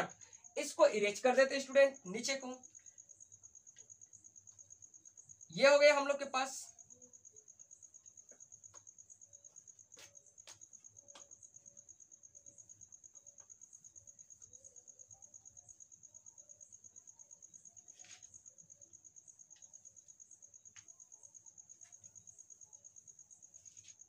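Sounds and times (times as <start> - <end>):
cricket chirring: 0.0 - 24.0.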